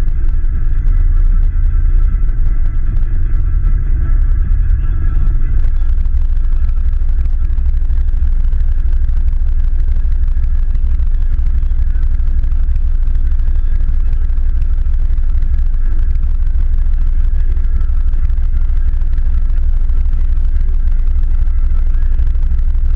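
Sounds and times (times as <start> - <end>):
vehicle engine idling: 0.0 - 22.9.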